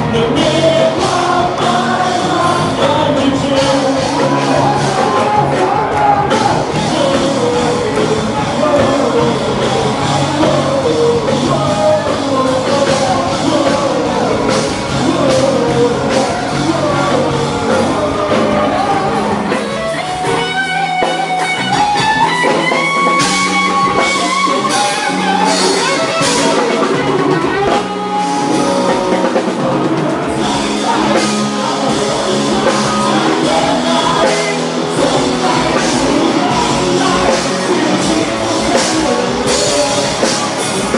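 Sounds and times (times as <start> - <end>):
live rock band playing: 0.0 - 40.9
person singing: 0.0 - 40.9.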